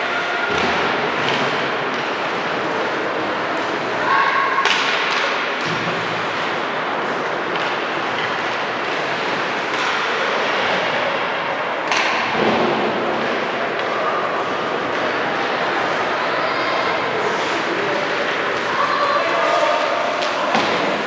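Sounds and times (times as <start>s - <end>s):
echoing hall background noise: 0.0s - 21.0s.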